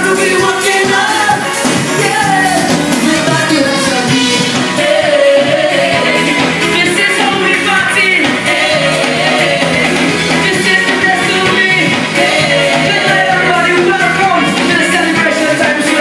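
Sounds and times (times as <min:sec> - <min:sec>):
backing band with saxophones: 0:00.0 - 0:16.0
person singing calypso: 0:00.0 - 0:16.0.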